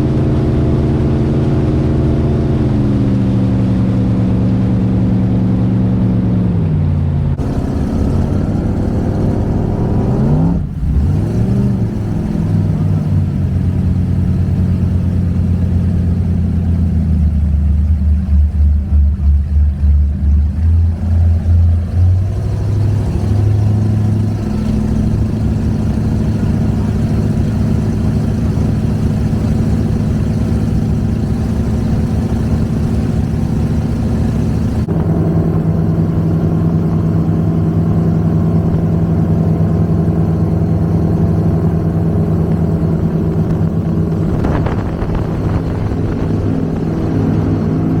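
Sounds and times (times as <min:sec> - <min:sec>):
boat engines running: 0:07.4 - 0:39.1, 0:40.1 - 0:48.0.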